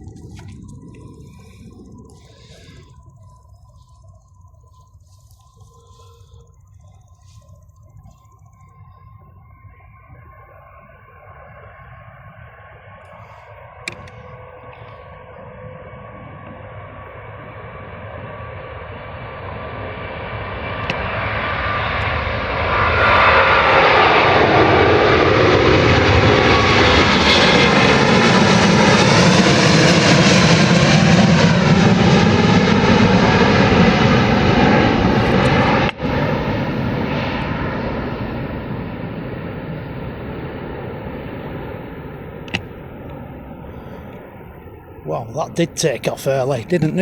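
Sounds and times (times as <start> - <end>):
jet airliner taking off: 0.0 - 47.0.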